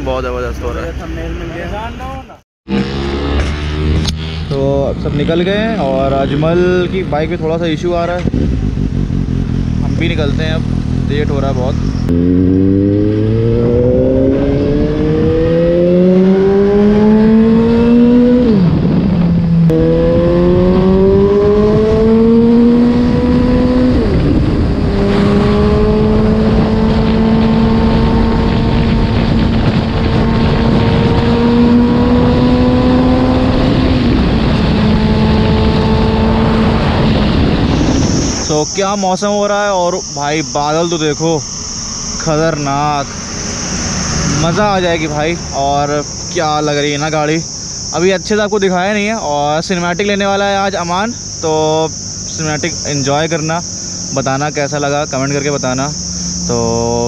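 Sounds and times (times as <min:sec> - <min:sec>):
motorcycle engine accelerating: 0:02.7 - 0:57.0
wind rush: 0:04.0 - 0:54.6.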